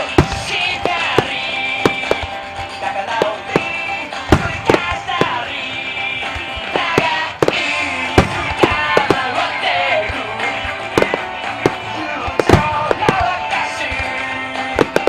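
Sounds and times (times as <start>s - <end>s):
firework bangs: 0.0s - 15.0s
song over loudspeakers: 0.0s - 15.0s.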